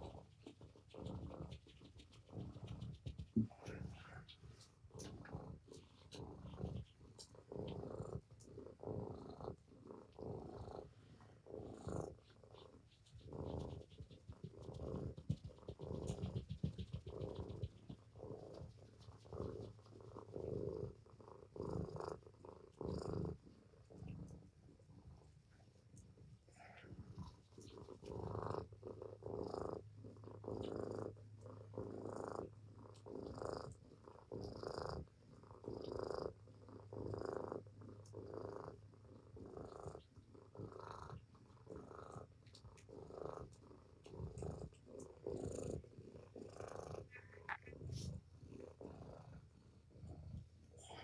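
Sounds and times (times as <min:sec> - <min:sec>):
cat purring: 0:00.0 - 0:51.0.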